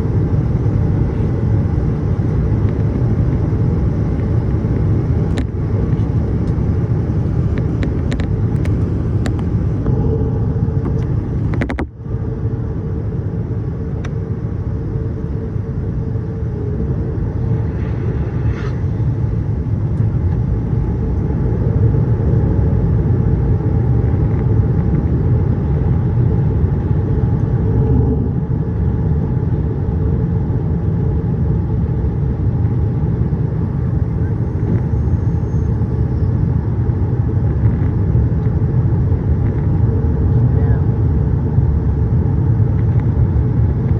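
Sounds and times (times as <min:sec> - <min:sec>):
airliner engine and airflow rumble: 0:00.0 - 0:43.9.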